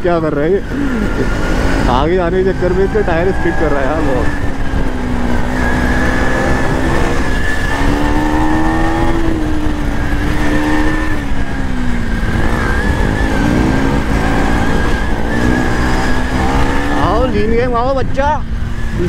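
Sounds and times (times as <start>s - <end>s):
motorcycle engine revving: 0.0s - 19.0s
rushing air rumble: 0.0s - 19.0s.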